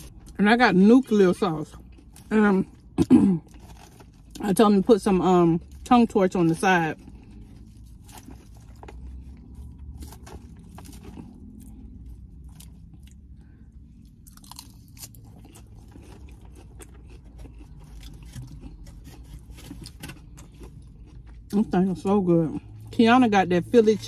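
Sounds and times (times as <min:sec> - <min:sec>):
chewing and crunching: 0:00.0 - 0:23.0.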